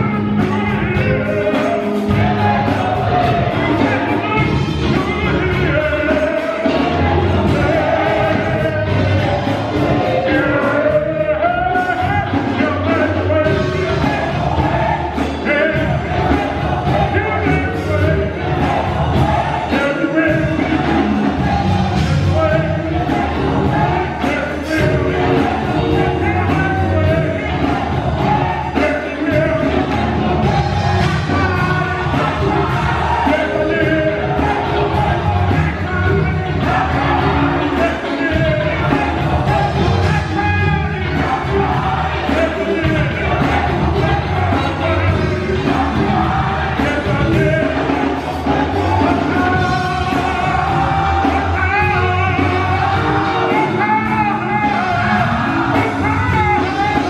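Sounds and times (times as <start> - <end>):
band with drums: 0.0 - 57.0
gospel choir singing: 0.0 - 57.0
low bass: 0.0 - 57.0
man singing into microphone: 0.0 - 57.0.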